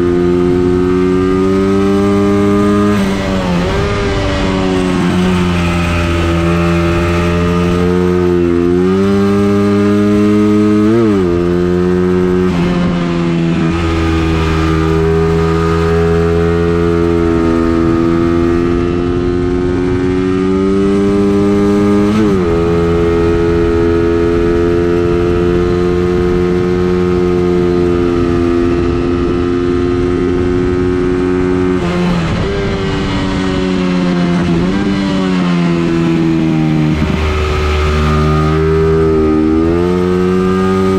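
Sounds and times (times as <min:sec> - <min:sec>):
racing engine at high revs: 0:00.0 - 0:40.9.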